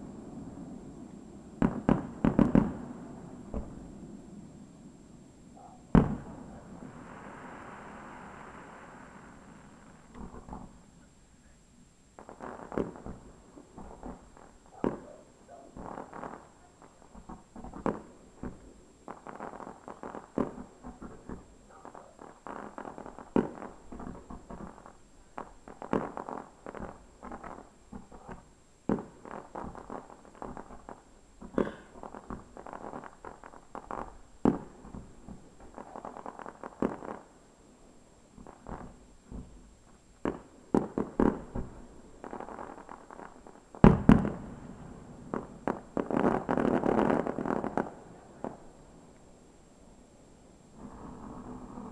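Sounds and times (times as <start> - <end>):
fireworks crackling: 0.0 - 51.9.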